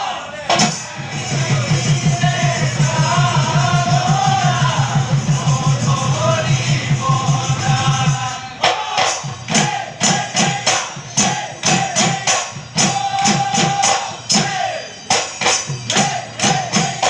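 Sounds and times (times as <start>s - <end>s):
dhol drums beating fast: 0.5s - 17.0s
ringing drum strokes and clashes: 0.5s - 17.0s.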